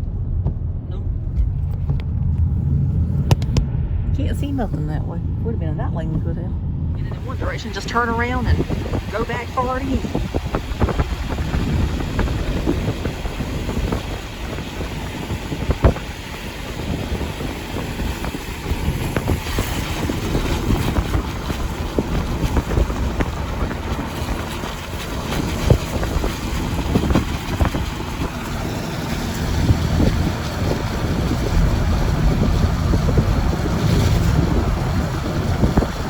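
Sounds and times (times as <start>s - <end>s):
road and wind noise: 0.0s - 36.0s.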